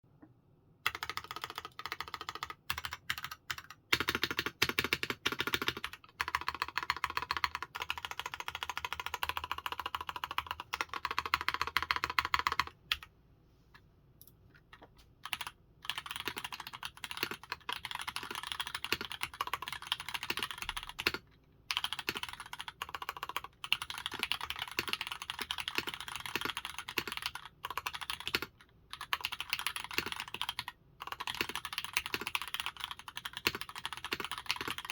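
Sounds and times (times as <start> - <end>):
fast typing on mechanical keyboard: 0.8 - 13.1, 15.2 - 34.9.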